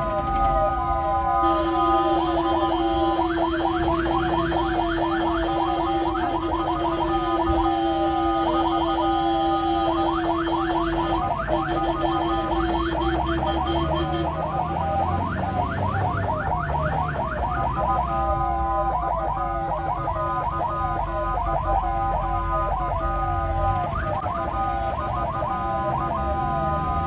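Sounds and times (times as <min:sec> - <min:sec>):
ambulance siren yelping: 0:00.0 - 0:27.0.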